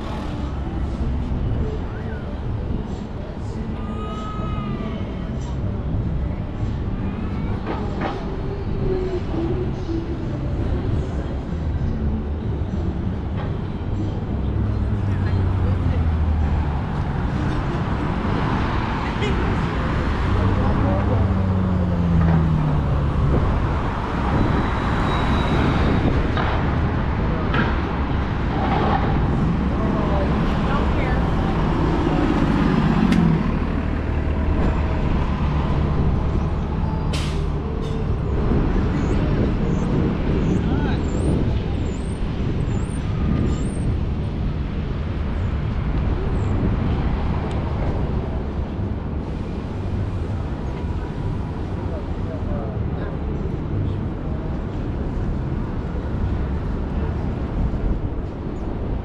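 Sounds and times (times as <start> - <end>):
passing vehicle engine hum: 0.0 - 59.0
road noise: 0.0 - 59.0
traffic rumble: 0.0 - 59.0.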